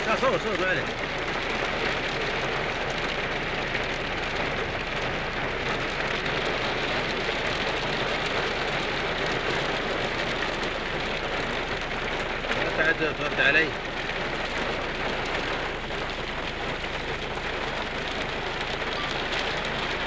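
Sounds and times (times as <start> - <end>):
heavy rain on rocky ground: 0.0 - 20.0.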